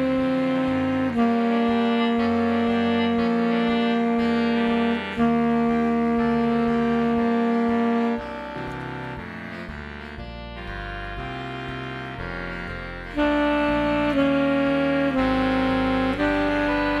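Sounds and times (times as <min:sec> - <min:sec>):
faint accompanying music: 0:00.0 - 0:17.0
saxophone sustained notes: 0:00.0 - 0:17.0.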